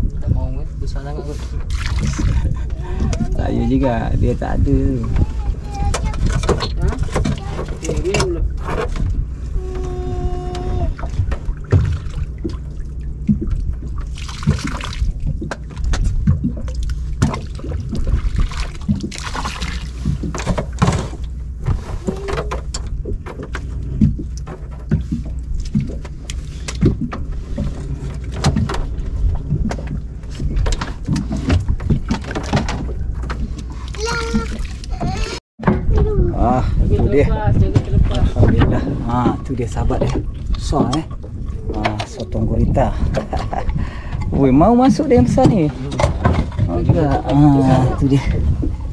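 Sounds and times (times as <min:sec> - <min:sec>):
knocks and clatter on boat: 0:00.0 - 0:48.9
steady low hum: 0:00.0 - 0:48.9
water splashing: 0:00.0 - 0:48.9.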